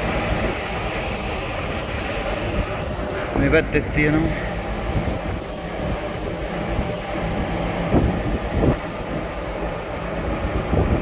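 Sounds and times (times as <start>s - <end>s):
ship machinery rumble: 0.0s - 11.0s
wind on microphone: 0.0s - 11.0s.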